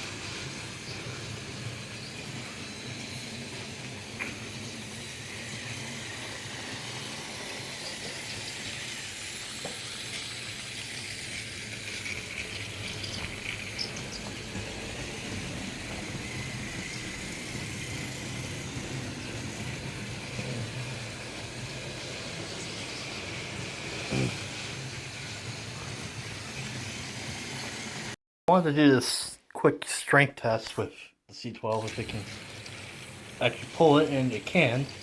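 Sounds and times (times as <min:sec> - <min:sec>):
toy train motors whirring: 0:00.0 - 0:28.2, 0:31.7 - 0:35.0.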